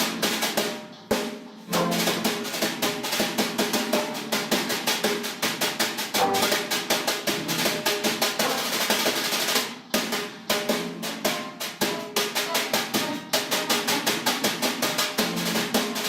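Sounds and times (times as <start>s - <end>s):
drums in a fast rhythm: 0.0s - 16.0s.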